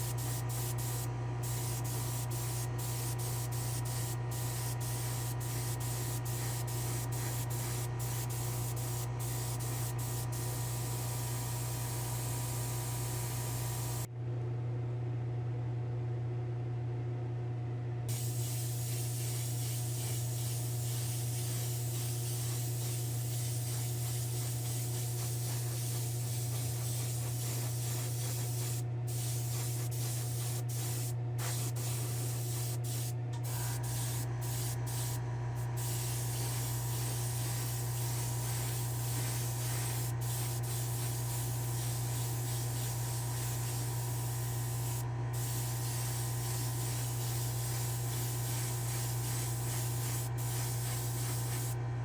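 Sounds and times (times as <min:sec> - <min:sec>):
airbrush spraying hiss: 0:00.0 - 0:14.1, 0:18.1 - 0:51.8
low machine hum: 0:00.0 - 0:52.0.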